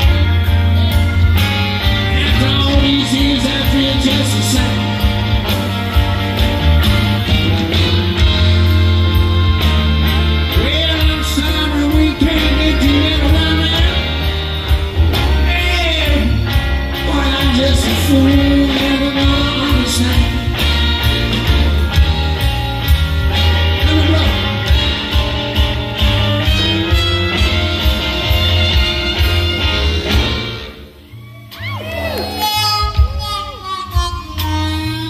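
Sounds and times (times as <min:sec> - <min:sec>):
blues band playing: 0:00.0 - 0:35.0
harmonica solo with bending notes: 0:00.0 - 0:35.0.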